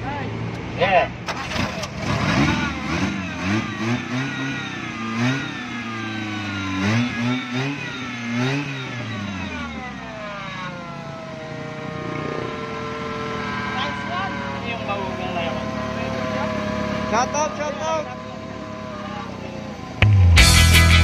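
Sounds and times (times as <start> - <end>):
car engine revving: 0.3 - 21.0.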